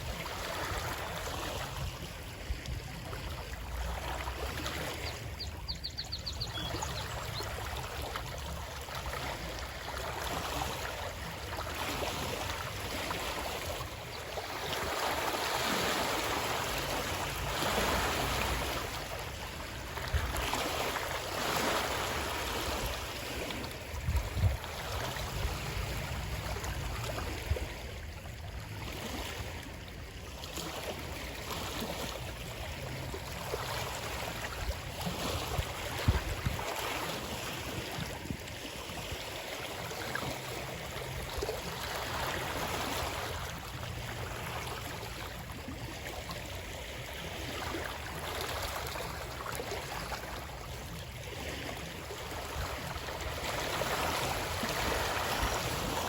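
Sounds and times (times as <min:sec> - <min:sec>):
stream water flowing and splashing: 0:00.0 - 0:56.0.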